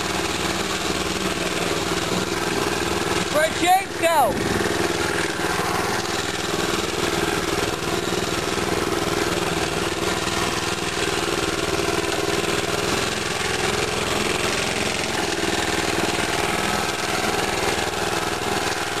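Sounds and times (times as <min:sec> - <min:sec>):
small engine running steadily: 0:00.0 - 0:19.0.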